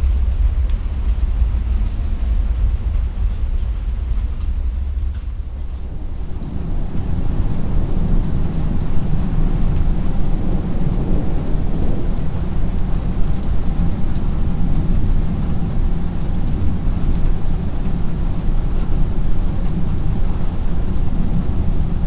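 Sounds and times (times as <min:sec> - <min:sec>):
low rumble of thunder: 0:00.0 - 0:22.0
rain falling: 0:00.0 - 0:22.0.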